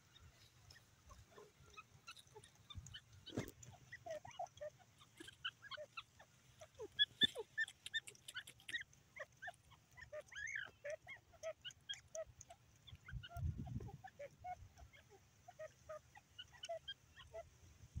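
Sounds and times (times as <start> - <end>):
birds chirping: 0.0 - 17.6.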